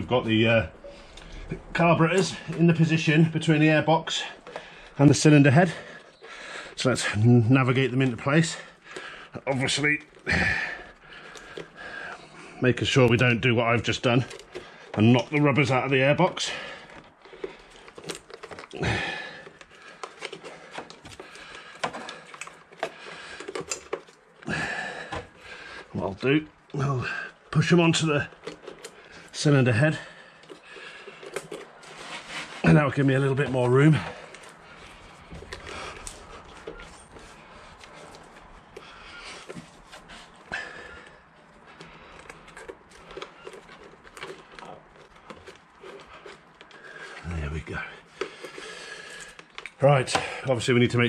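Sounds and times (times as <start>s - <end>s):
rubber hoses rustling: 0.0s - 51.0s.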